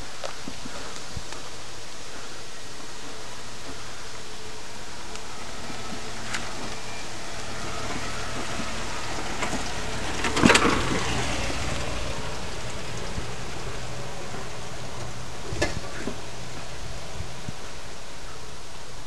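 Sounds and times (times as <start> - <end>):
car engine low hum: 0.0 - 19.0
wash of noise: 0.0 - 19.0.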